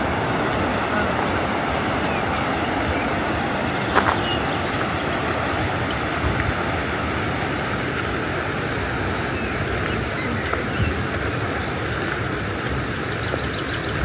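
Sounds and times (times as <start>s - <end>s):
rushing water roar: 0.0s - 14.0s.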